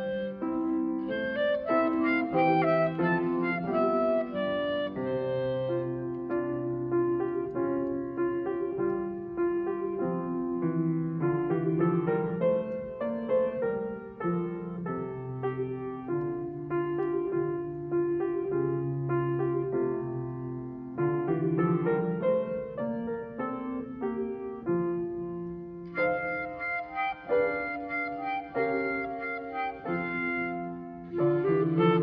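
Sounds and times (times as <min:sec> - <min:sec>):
grand piano playing: 0:00.0 - 0:32.0.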